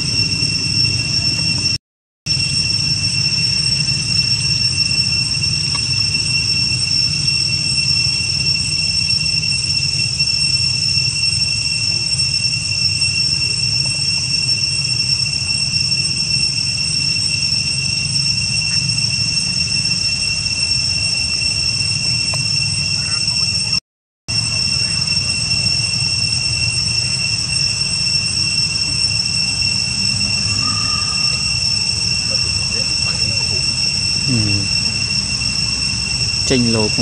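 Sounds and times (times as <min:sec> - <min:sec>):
high-pitched insect drone: 0:00.0 - 0:37.0.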